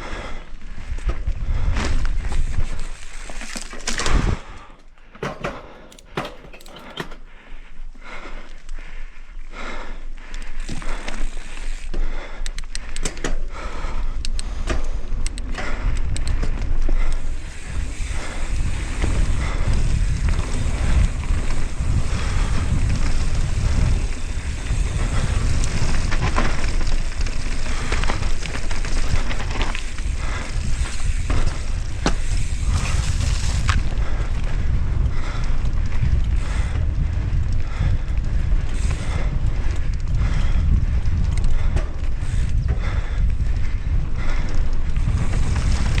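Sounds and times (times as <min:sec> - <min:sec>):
wind rumble on microphone: 0:00.0 - 0:04.6, 0:13.1 - 0:46.0
bike tyres on rock and gravel: 0:00.0 - 0:46.0
bike knocking and rattling: 0:00.9 - 0:07.7, 0:10.4 - 0:46.0.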